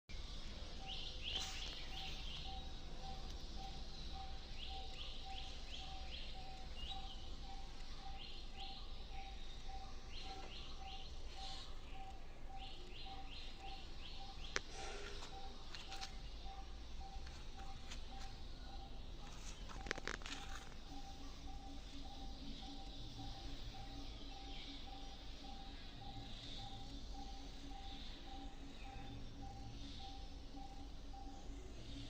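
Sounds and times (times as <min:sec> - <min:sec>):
bird singing falling chirps: 0:00.1 - 0:32.0.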